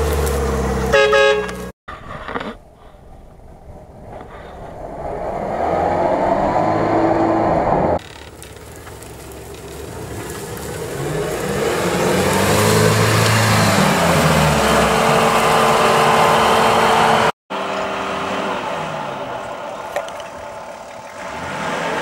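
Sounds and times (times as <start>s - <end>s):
quieter engine running: 2.9s - 22.0s.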